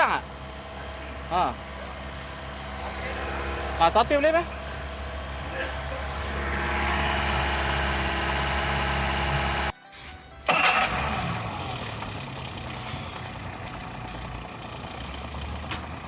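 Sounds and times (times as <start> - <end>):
boat engine running: 0.0 - 9.7, 10.5 - 16.0.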